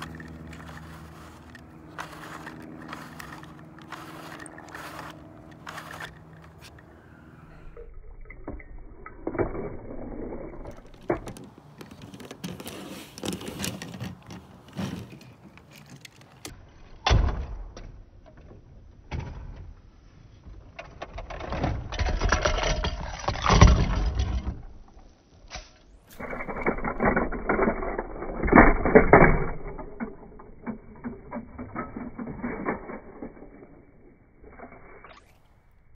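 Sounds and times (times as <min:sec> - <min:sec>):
toys clattering and rattling: 0:00.0 - 0:16.6, 0:20.8 - 0:24.8, 0:26.0 - 0:35.6.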